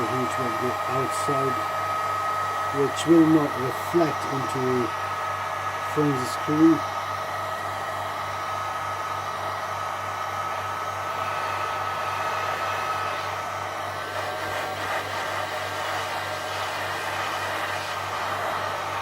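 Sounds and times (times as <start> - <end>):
heat gun blowing air: 0.0 - 19.0.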